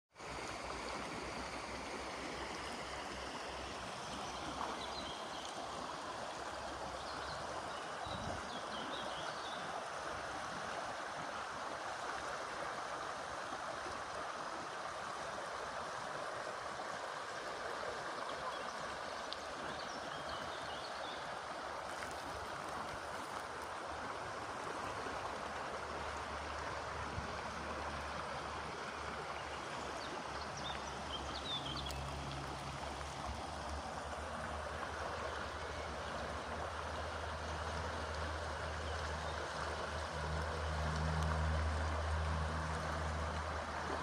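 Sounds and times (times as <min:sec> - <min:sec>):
river water rushing: 0:00.2 - 0:44.0.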